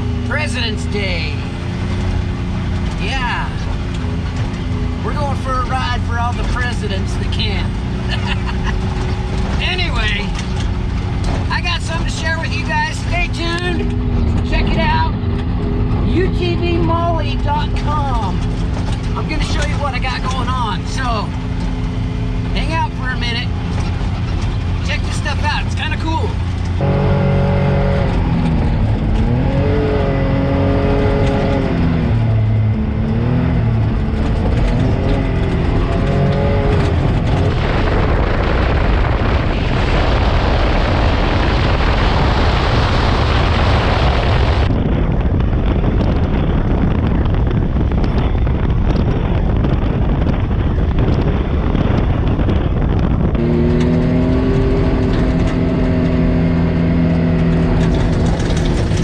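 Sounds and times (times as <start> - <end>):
tyres on dirt: 0.0 - 44.8, 51.3 - 59.0
off-road vehicle engine: 0.0 - 59.0.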